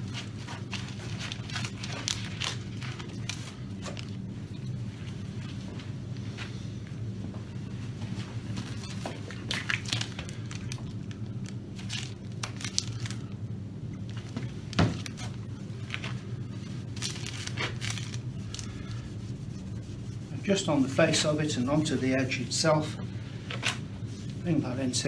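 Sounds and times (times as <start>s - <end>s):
cloth and plastic rustling: 0.0s - 13.4s, 14.0s - 25.0s
steady low hum: 0.0s - 25.0s.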